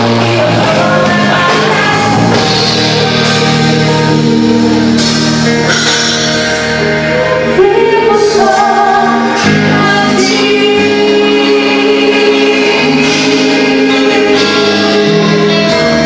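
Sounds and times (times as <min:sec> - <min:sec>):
woman singing: 0:00.0 - 0:05.0, 0:07.1 - 0:16.0
worship band playing: 0:00.0 - 0:16.0.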